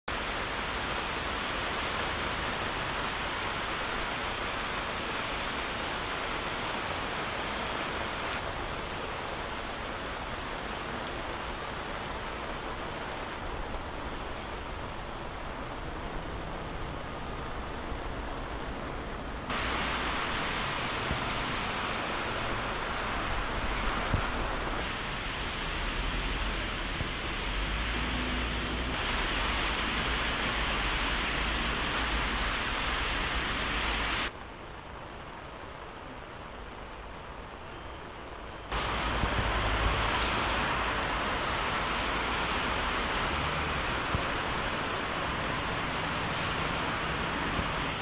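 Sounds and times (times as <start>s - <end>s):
heavy rain on pavement: 0.0s - 48.0s.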